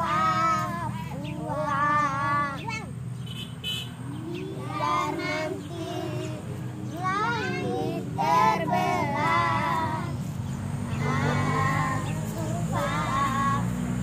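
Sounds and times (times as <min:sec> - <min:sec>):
young children singing: 0:00.0 - 0:02.9, 0:04.1 - 0:14.0.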